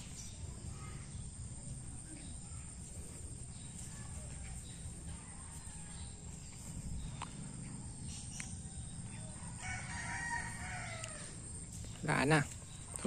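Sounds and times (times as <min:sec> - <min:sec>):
bird chirps: 0:00.0 - 0:13.0
insect drone: 0:00.0 - 0:13.0.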